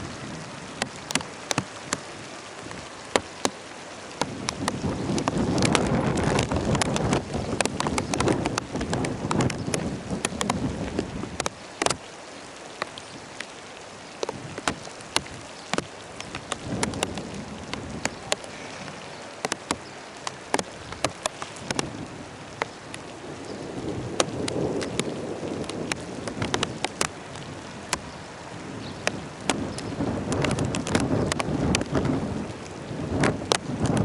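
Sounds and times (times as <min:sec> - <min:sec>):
steady rain falling: 0:00.0 - 0:34.0
distant thunder rumble: 0:04.2 - 0:11.9, 0:14.4 - 0:34.0.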